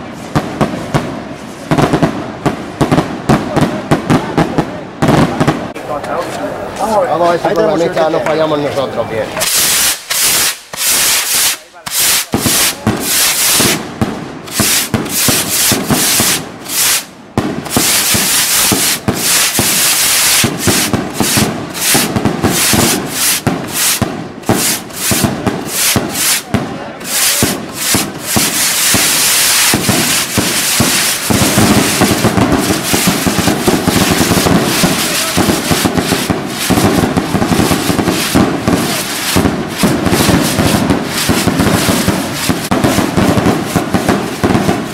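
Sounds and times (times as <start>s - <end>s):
fireworks bangs and crackle: 0.0s - 8.6s, 9.3s - 44.9s.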